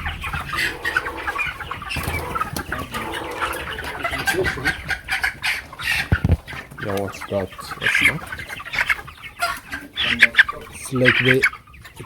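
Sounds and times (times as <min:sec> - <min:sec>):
young chickens peeping and clucking: 0:00.0 - 0:12.0.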